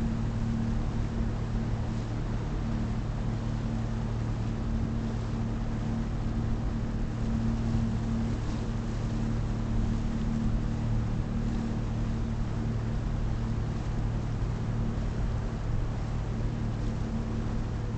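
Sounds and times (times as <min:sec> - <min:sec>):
motorboat engine humming: 0:00.0 - 0:17.9
wind and water hiss: 0:00.0 - 0:17.9.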